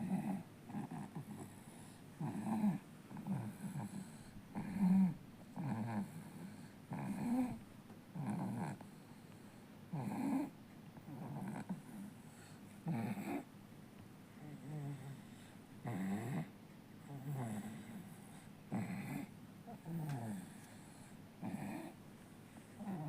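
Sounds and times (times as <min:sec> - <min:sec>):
baby snoring: 0:00.0 - 0:07.6, 0:08.2 - 0:08.8, 0:09.9 - 0:13.5, 0:14.4 - 0:22.0, 0:22.7 - 0:23.0.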